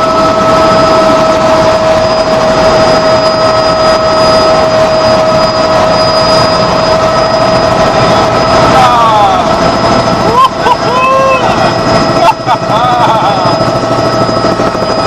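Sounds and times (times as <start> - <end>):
helicopter rotor and engine: 0.0 - 15.0
high whine: 0.0 - 15.0.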